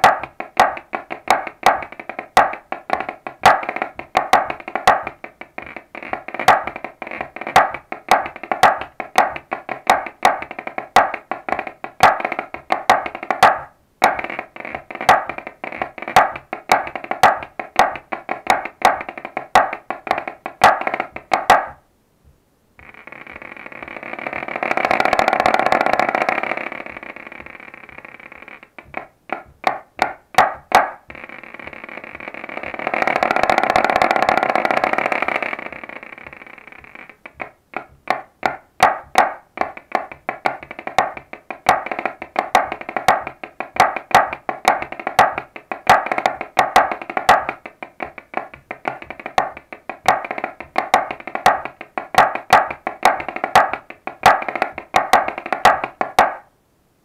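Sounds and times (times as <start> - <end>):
drum played with sticks: 0.0 - 23.0, 23.8 - 27.5, 28.7 - 56.5.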